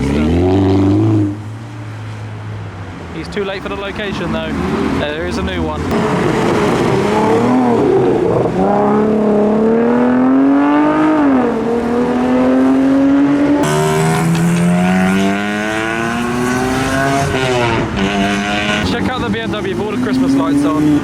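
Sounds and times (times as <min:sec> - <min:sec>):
car engines accelerating: 0:00.0 - 0:21.0.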